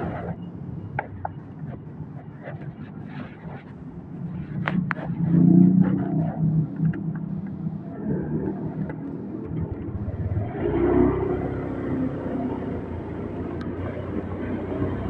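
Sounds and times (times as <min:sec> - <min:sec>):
deeper engine rumble: 0:00.0 - 0:15.0
road noise: 0:00.0 - 0:15.0.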